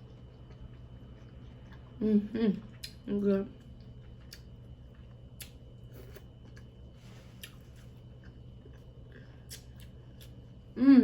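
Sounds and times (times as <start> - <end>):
person chewing: 0.0 - 2.0, 2.6 - 10.5.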